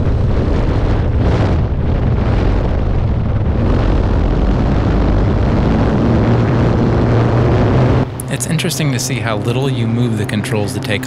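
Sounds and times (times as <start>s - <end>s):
model airplane engine drone: 0.0s - 11.0s
wind buffeting microphone: 0.0s - 11.0s.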